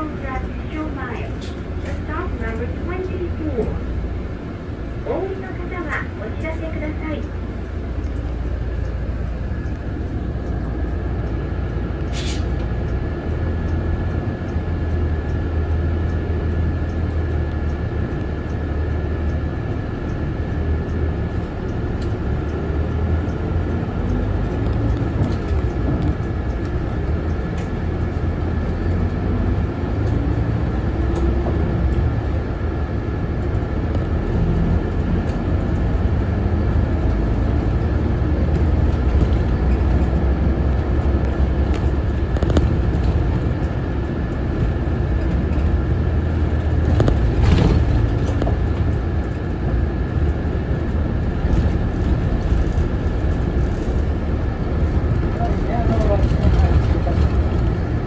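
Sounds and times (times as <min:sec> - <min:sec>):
bus engine rumble: 0:00.0 - 0:58.0.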